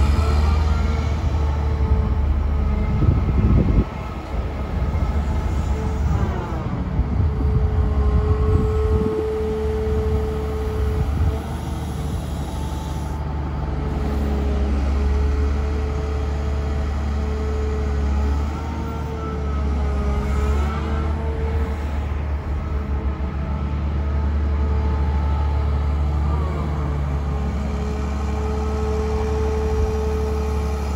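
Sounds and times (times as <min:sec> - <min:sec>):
diesel engine droning under load: 0:00.0 - 0:30.9.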